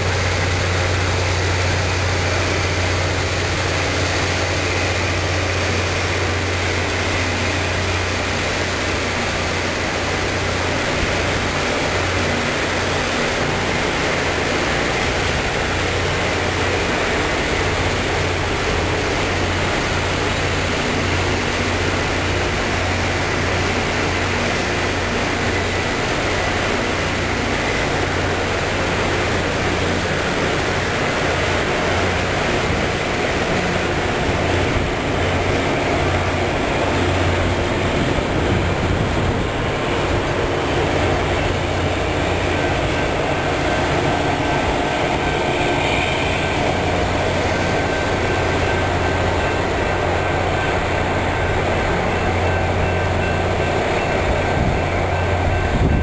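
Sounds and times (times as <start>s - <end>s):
rail grinding hiss: 0.0s - 56.0s.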